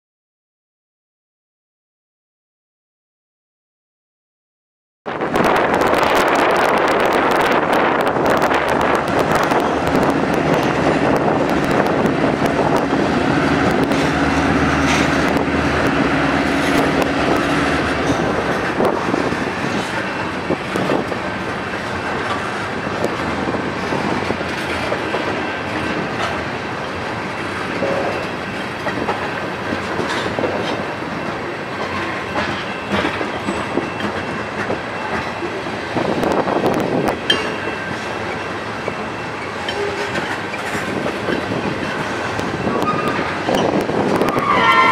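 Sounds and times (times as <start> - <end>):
diesel locomotive drone: 5.1 - 44.9
train wheels clicking over rail joints: 5.4 - 44.9.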